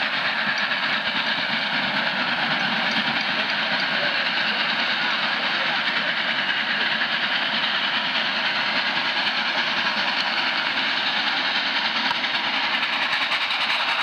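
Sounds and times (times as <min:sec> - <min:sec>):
train cars rolling on rails: 0:00.0 - 0:14.0.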